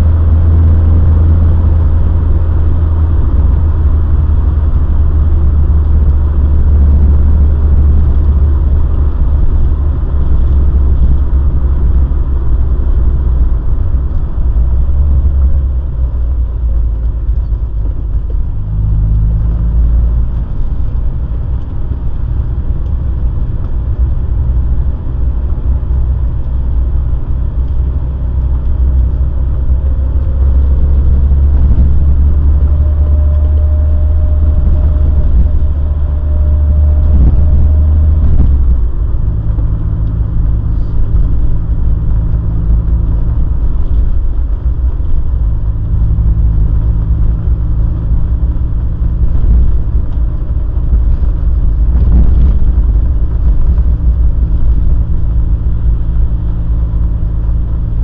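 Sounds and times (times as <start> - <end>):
car engine and road rumble: 0.0 - 58.0
faint whine: 0.0 - 58.0.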